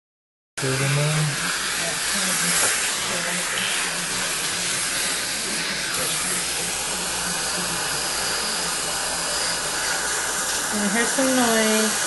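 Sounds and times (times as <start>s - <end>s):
dental suction hissing: 0.8s - 12.0s.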